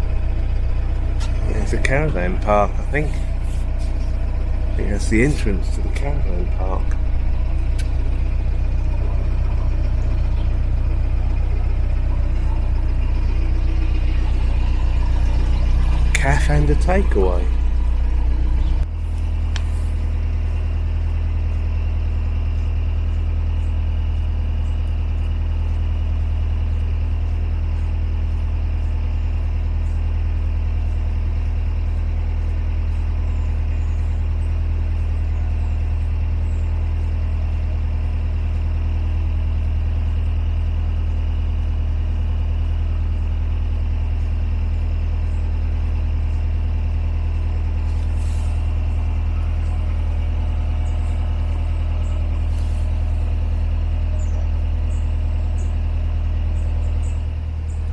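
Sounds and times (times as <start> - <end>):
boat diesel engine running: 0.0 - 57.9.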